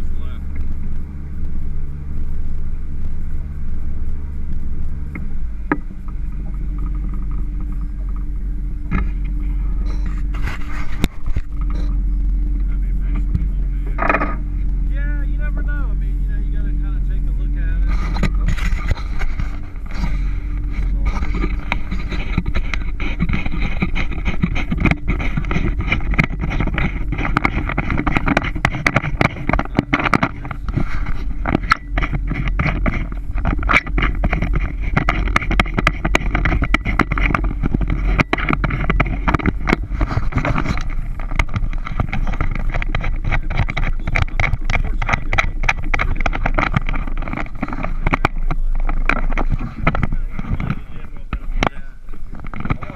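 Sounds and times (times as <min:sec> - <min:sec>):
motorboat engine drone: 0:00.0 - 0:52.9
sharp knocks and crackles: 0:00.0 - 0:52.9.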